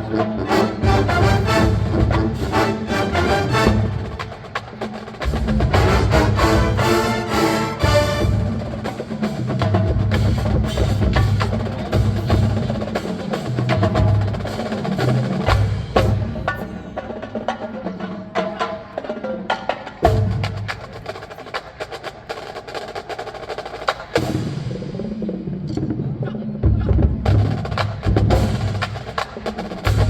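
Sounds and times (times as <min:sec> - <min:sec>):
marching band playing: 0:00.0 - 0:24.8, 0:27.0 - 0:30.0
percussion strikes and drums: 0:00.0 - 0:30.0.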